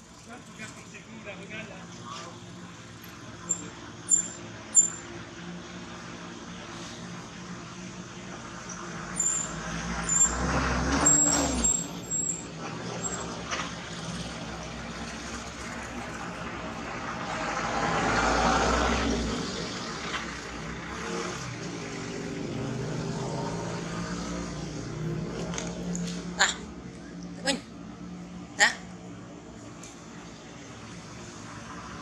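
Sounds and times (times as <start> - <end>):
motor vehicles passing: 0.0 - 32.0.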